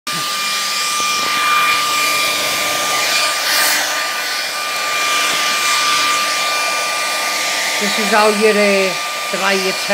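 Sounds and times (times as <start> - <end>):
hair dryer blowing air: 0.1 - 9.9
hair dryer motor whine: 0.1 - 9.9.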